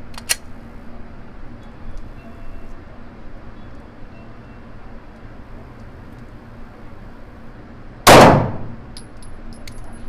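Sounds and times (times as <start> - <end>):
indoor shooting range rumble: 0.0 - 10.0.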